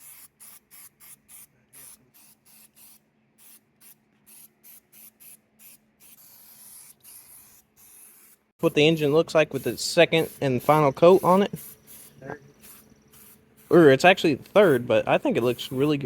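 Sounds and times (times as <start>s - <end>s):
spray paint can hissing: 0.0s - 16.0s.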